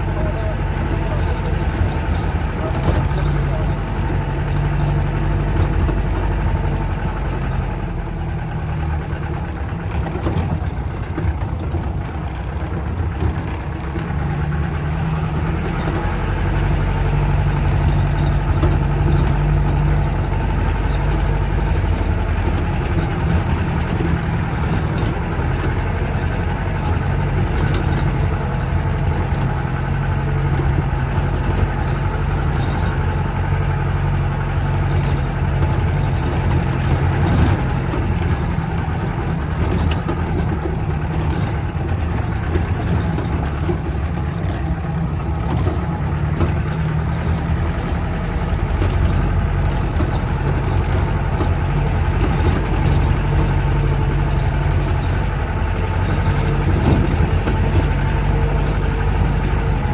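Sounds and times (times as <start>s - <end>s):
jeep engine idling: 0.0s - 59.9s.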